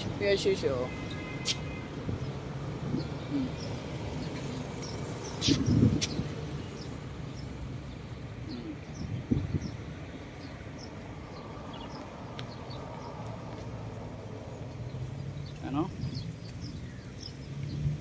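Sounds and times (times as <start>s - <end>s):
small birds chirping: 0.0s - 18.0s
traffic rumble: 0.0s - 18.0s.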